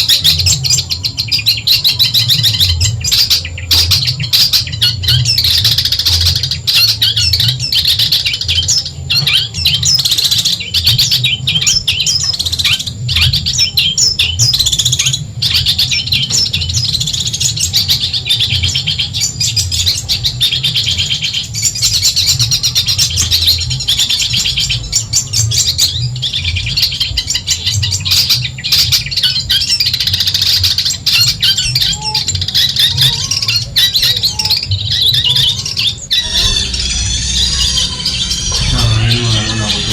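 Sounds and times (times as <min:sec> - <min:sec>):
shrike singing rapid chattering song: 0:00.0 - 0:39.9.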